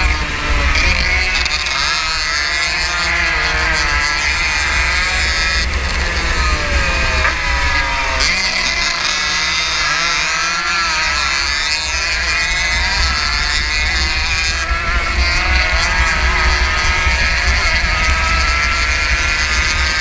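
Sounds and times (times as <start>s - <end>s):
motorcycle engine revving: 0.0s - 20.0s
wind buffeting microphone: 0.0s - 20.0s.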